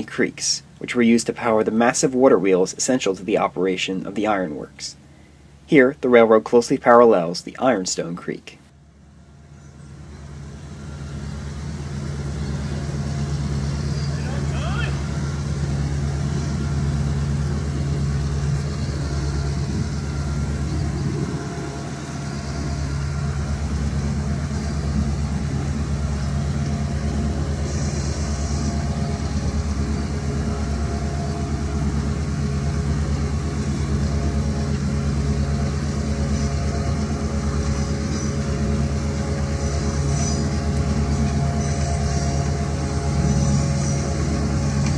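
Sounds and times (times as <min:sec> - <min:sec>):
locomotive engine drone: 0:00.0 - 0:44.9.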